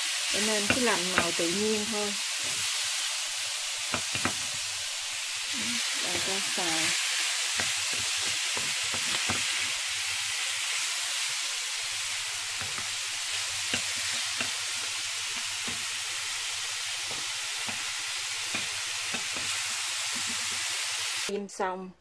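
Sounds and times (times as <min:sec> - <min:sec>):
shrimp sizzling in oil: 0:00.0 - 0:21.3.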